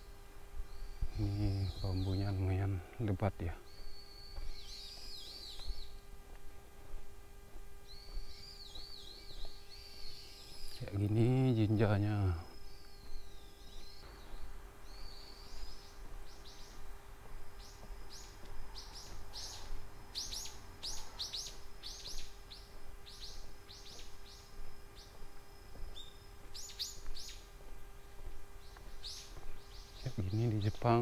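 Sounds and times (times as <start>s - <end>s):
faint steady hum: 0.0s - 31.0s
songbirds chirping: 0.0s - 31.0s.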